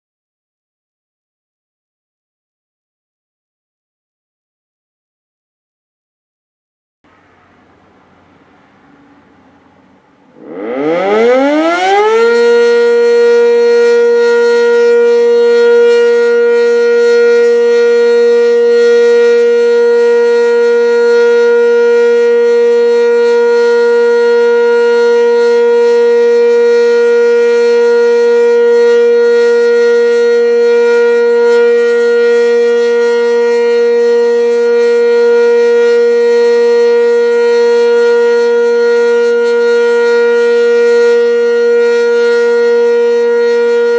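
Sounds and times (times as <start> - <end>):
warning siren: 7.2 - 43.9.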